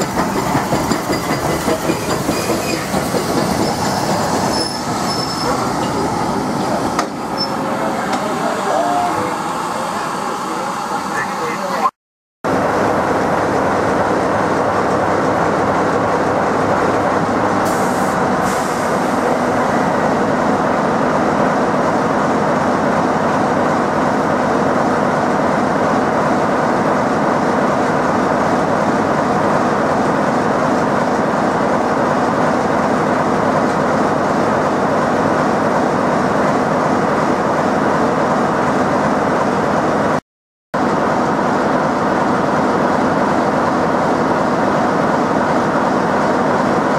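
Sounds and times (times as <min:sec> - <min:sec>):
diesel locomotive engine running: 0:00.0 - 0:11.9, 0:12.5 - 0:40.2, 0:40.8 - 0:46.9.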